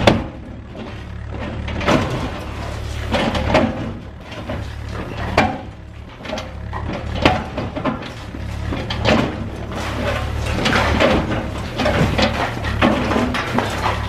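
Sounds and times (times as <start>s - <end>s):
concrete crunching impacts: 0.0s - 14.0s
excavator diesel engine: 0.0s - 14.0s.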